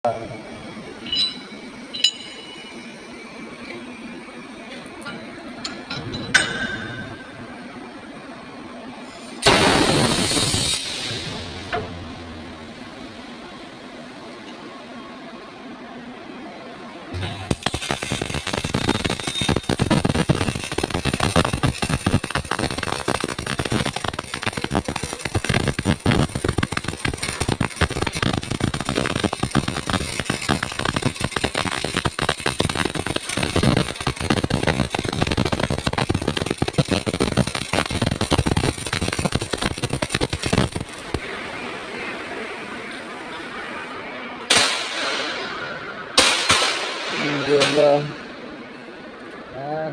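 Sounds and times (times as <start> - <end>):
welding arc crackling: 0.1 - 14.3, 17.2 - 49.4.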